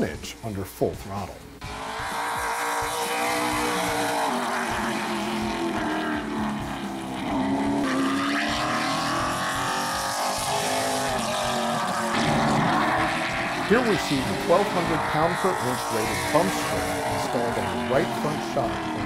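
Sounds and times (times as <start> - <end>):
race car engine running hard: 1.6 - 19.0.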